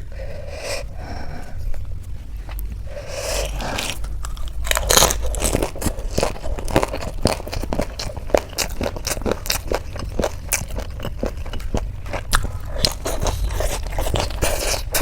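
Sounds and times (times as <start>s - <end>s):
person chewing crunchy snacks: 0.3s - 15.0s.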